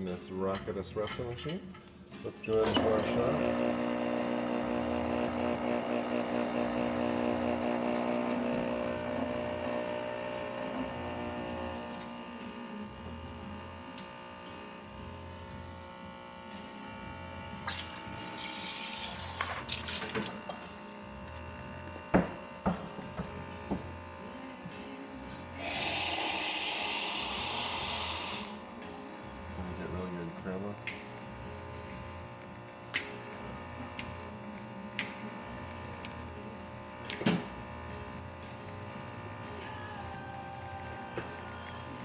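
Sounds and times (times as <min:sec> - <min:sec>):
espresso machine pump buzzing: 0:02.6 - 0:42.0.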